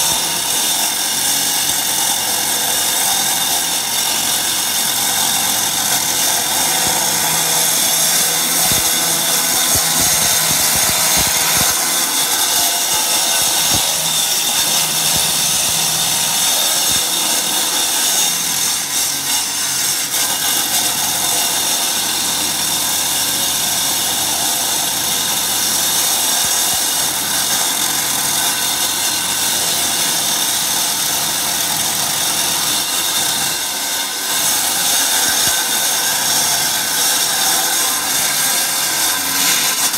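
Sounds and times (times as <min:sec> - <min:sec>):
power tool grinding concrete: 0:00.0 - 0:39.9.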